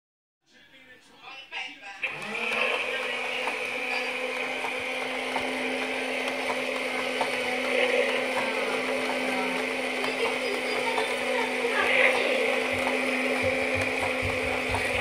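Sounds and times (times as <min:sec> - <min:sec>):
model engine motor whir: 0:02.0 - 0:15.0.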